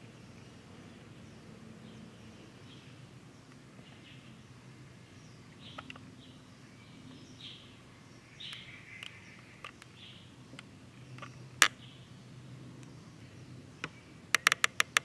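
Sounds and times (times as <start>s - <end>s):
faint chirping calls: 0.0s - 15.0s.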